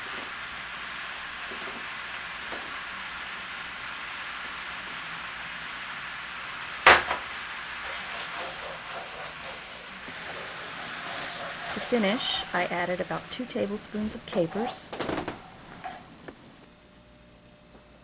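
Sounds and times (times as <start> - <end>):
chicken sizzling in a pan: 0.0 - 14.9.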